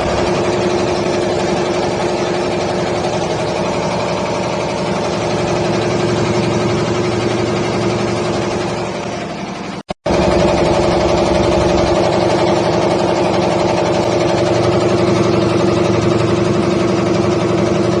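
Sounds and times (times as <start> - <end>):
roaster machine drone: 0.0 - 18.0.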